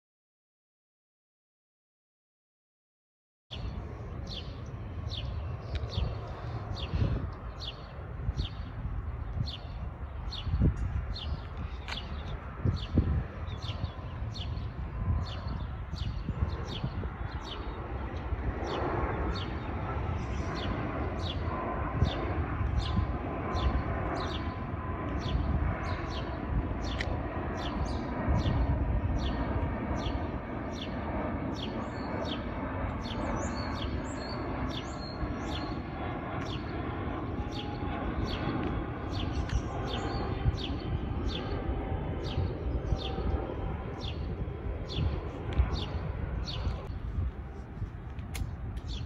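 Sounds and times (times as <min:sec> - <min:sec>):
jet airliner rumbling overhead: 0:03.5 - 0:49.0.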